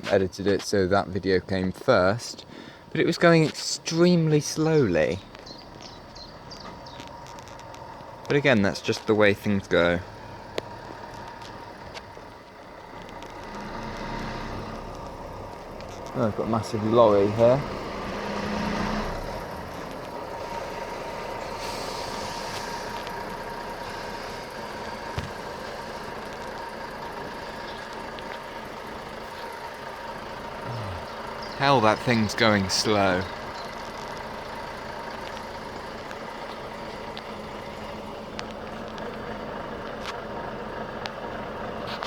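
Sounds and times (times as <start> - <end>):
diesel lorry engine running: 0.0 - 42.0.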